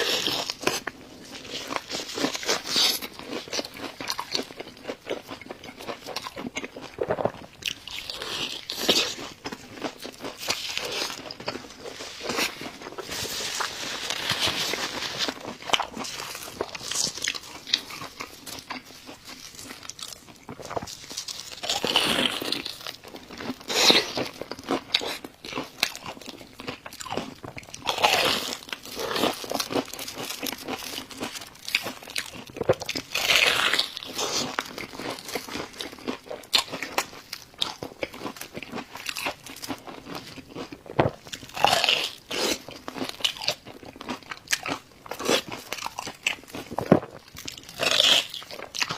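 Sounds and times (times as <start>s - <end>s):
food crunching and chewing: 0.0s - 48.9s.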